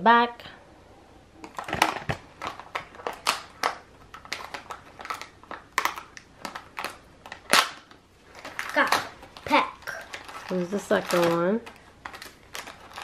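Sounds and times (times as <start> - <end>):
plastic packaging crinkling: 1.4 - 13.0.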